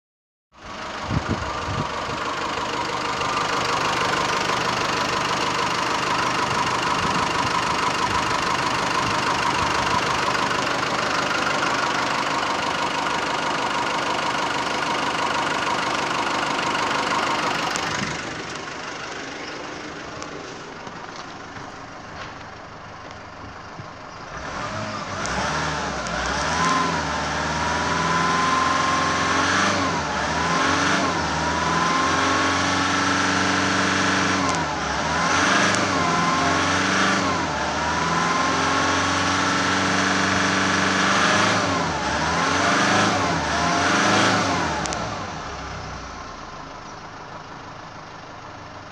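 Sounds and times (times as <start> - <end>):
diesel engine running: 0.6 - 48.9
engine revving: 0.8 - 20.6, 24.3 - 46.4.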